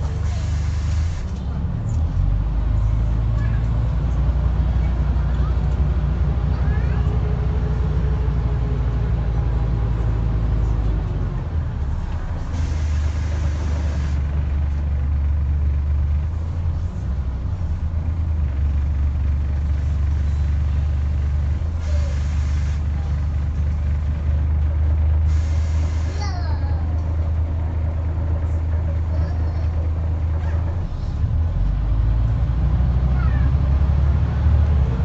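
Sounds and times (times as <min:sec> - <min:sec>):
bus diesel engine droning: 0:00.0 - 0:35.0.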